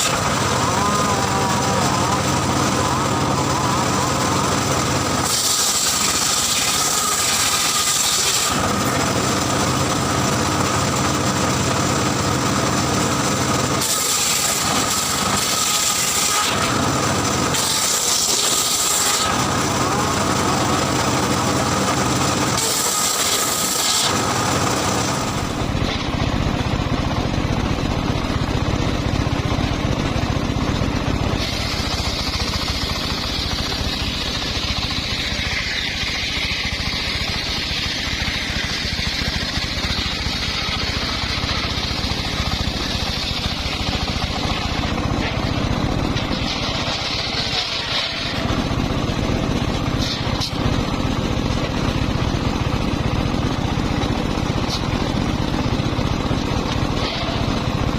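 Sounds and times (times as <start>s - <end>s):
circular saw engine running: 0.0s - 57.9s
saw blade whine cutting wood: 0.0s - 57.9s.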